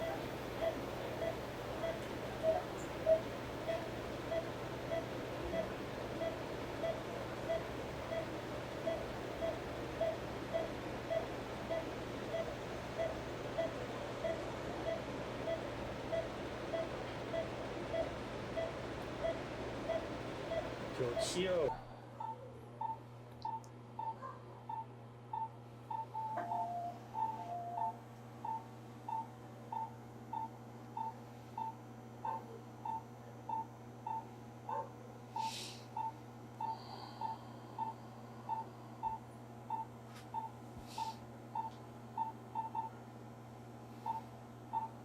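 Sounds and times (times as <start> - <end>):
electronic monitor beeping: 0.0 - 34.3, 35.4 - 43.0, 44.1 - 45.0
low electrical hum: 0.0 - 45.0.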